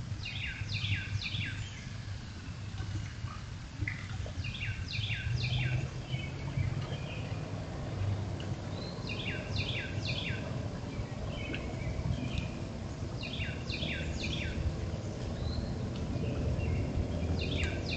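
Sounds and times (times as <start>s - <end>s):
steady low rumble: 0.0s - 17.9s
songbird singing: 0.1s - 17.9s.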